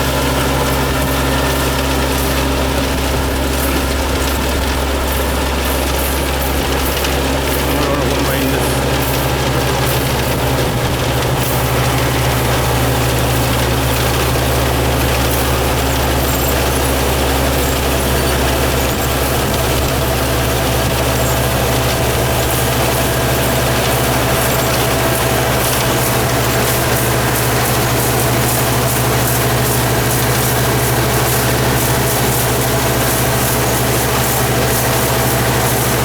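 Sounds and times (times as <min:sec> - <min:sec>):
combine harvester engine droning: 0:00.0 - 0:36.0.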